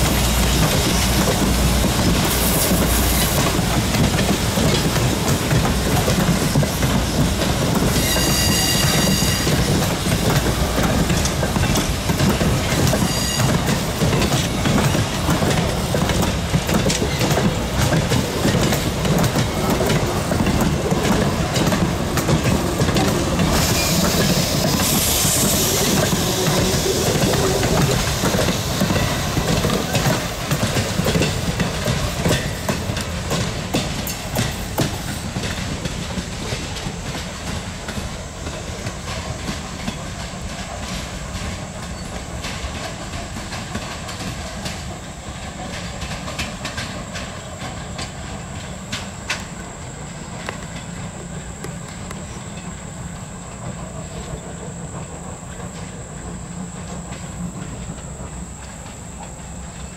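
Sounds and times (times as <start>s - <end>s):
train coaches rumbling past: 0.0s - 59.9s
wheels clicking over rail joints: 0.0s - 59.9s.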